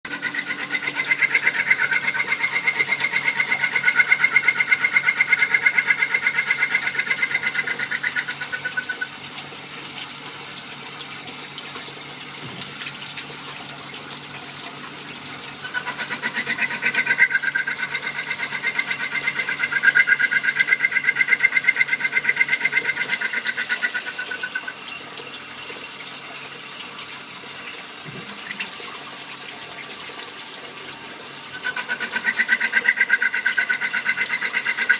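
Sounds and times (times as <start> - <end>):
cutting coolant flowing: 0.0 - 34.9.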